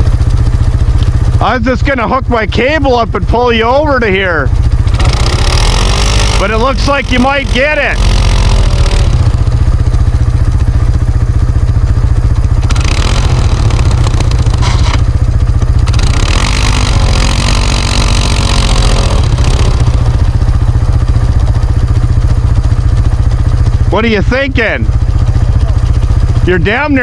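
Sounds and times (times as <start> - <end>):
atv engine revving: 0.0 - 27.0
atv engine running steadily: 0.0 - 27.0.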